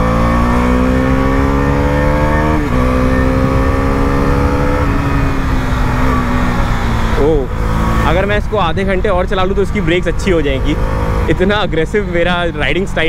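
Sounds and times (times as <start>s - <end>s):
motorcycle engine revving through gears: 0.0s - 13.0s.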